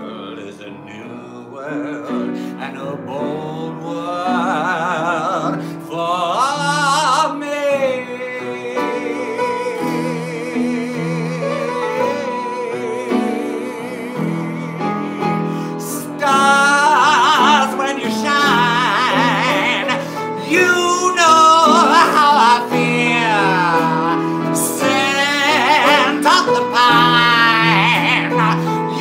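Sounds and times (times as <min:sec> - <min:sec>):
acoustic guitar: 0:00.0 - 0:29.0
person singing with vibrato: 0:00.0 - 0:29.0
upright piano: 0:00.0 - 0:29.0.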